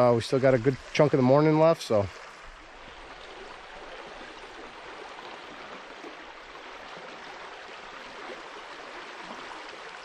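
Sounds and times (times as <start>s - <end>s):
creek water rushing and babbling: 0.0s - 10.0s.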